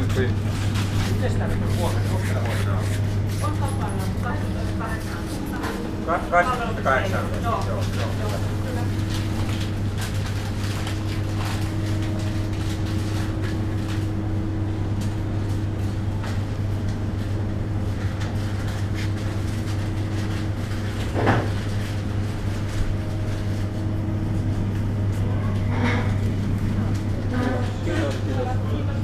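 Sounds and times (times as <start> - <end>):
refrigeration and ventilation hum: 0.0 - 29.0.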